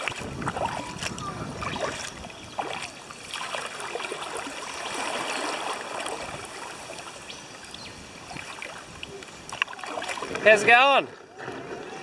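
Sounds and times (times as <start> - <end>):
river water rippling: 0.0 - 12.0.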